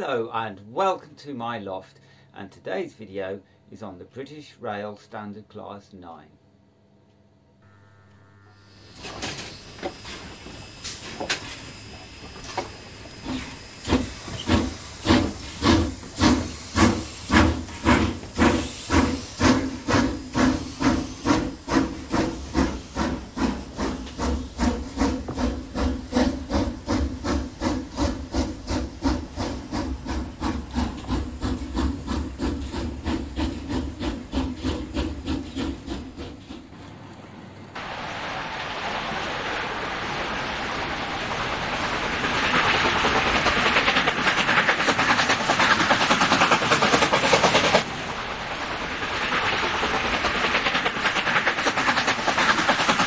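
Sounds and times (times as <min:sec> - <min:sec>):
steam locomotive chuffing: 0:08.8 - 0:38.1, 0:38.8 - 0:53.0.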